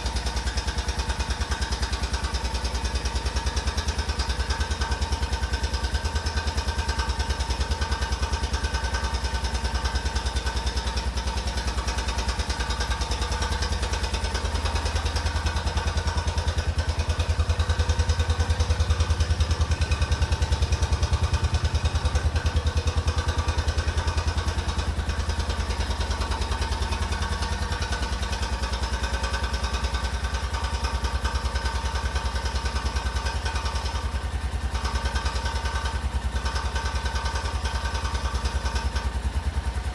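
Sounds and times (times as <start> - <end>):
engine idling with rapid knock: 0.0 - 39.9.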